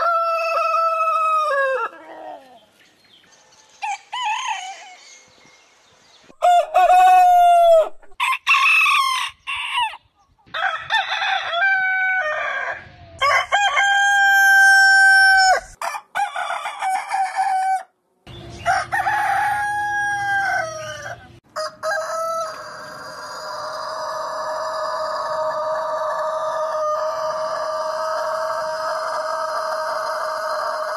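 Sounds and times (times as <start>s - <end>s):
roosters crowing: 0.0s - 2.8s, 3.7s - 5.2s, 6.4s - 30.9s.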